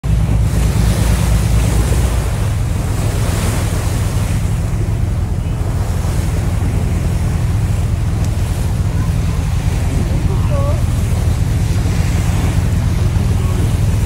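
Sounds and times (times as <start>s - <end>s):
boat engine droning: 0.0s - 14.0s
waves washing: 0.0s - 14.0s
wind buffeting microphone: 0.0s - 14.0s.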